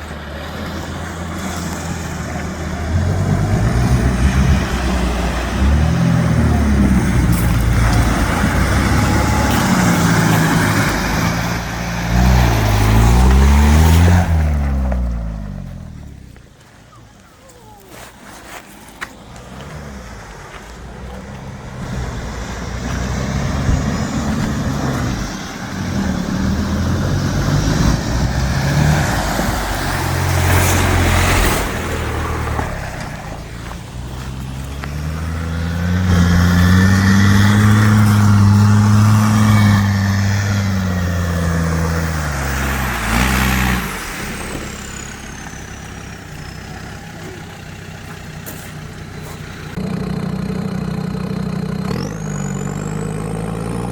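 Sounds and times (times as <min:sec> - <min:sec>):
off-road vehicle engine revving: 0:00.0 - 0:16.4, 0:19.1 - 0:53.9.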